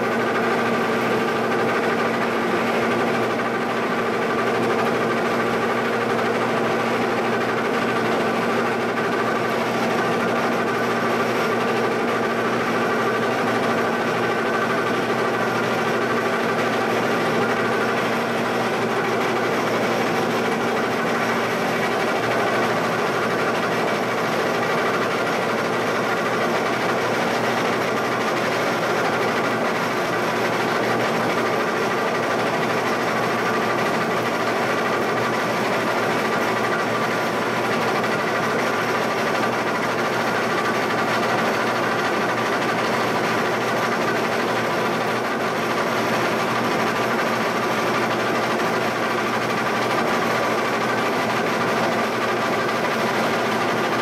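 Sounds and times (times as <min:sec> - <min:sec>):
machine hum: 0:00.0 - 0:54.0.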